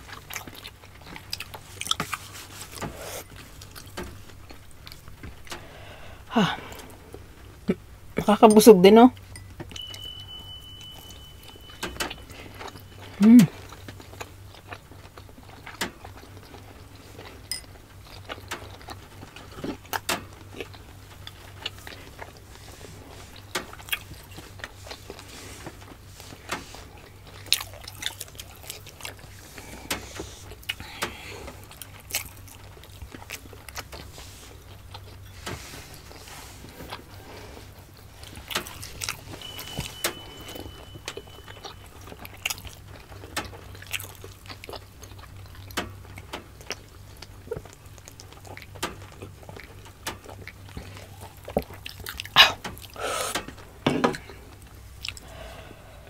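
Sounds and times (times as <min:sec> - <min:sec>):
chewing: 0:00.0 - 0:05.9, 0:10.8 - 0:53.4, 0:54.1 - 0:55.4
faint low hum: 0:00.0 - 0:56.0.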